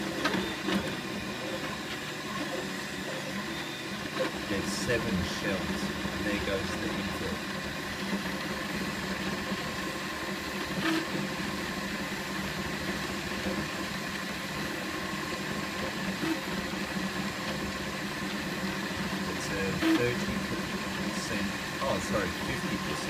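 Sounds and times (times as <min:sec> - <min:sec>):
printer motors and fans humming: 0:00.0 - 0:23.0.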